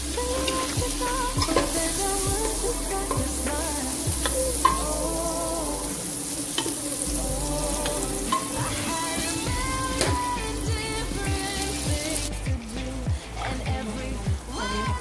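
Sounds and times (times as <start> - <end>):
butter sizzling in a pot: 0.0 - 14.9.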